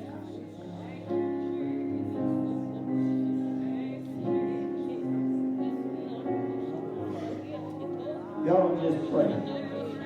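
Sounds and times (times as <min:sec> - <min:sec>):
keyboard playing slow chords: 0:00.0 - 0:10.0.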